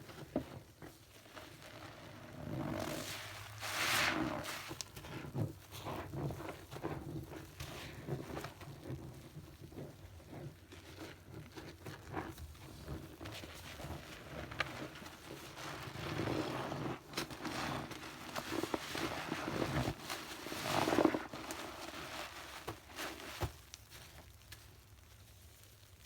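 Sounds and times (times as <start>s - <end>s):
cleaning product crackling and popping: 0.1s - 26.0s.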